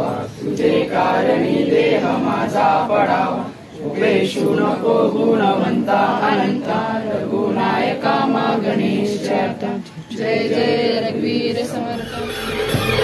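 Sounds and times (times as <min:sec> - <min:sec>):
group singing a chant in unison: 0:00.0 - 0:13.0.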